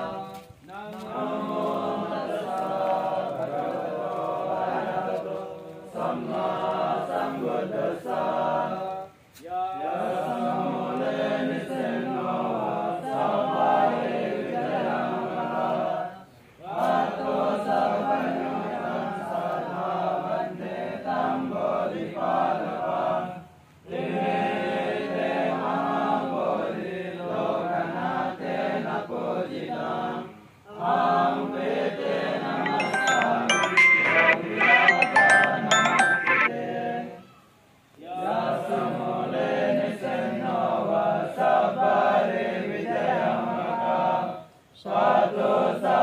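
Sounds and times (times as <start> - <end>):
men chanting in unison: 0.0 - 32.4, 38.0 - 46.0.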